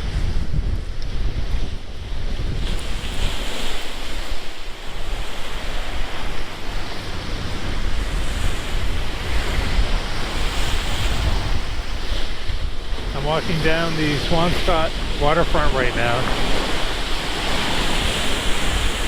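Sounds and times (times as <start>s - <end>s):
sea surf breaking: 0.0s - 19.0s
wind buffeting microphone: 0.0s - 19.0s.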